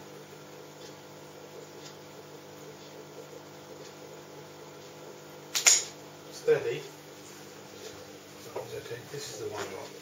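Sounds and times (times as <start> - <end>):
faint electrical hum with hiss: 0.0 - 10.0.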